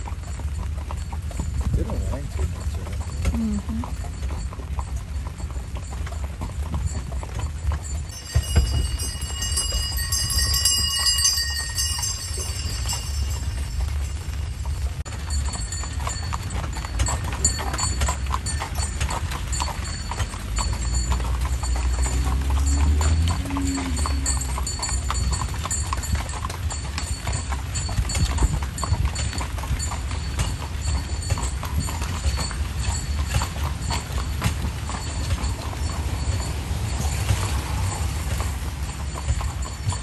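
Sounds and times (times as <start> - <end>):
horse hooves clip-clopping on road: 0.0 - 40.0.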